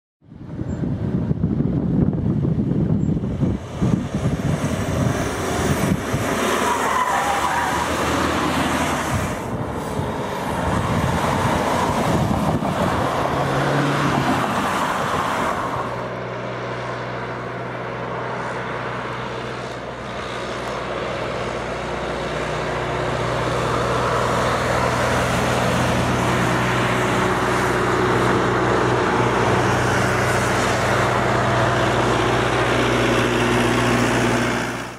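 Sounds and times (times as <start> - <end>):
engine hum: 0.2 - 34.9
cars driving by: 2.0 - 34.9.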